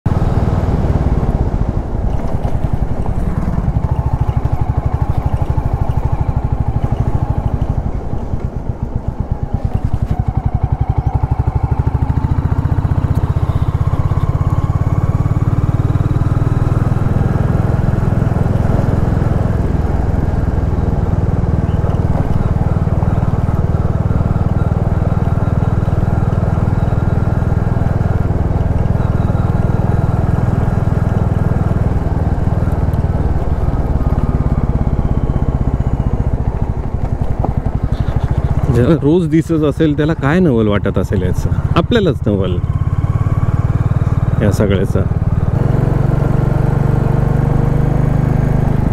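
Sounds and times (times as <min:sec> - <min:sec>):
motorcycle engine running: 0:00.1 - 0:48.9.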